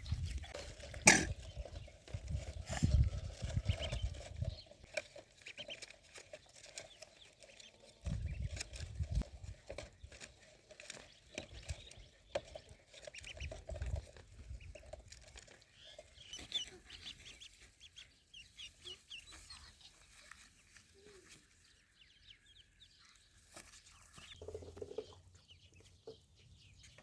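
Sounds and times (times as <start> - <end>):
ducklings peeping: 0.0 - 27.0.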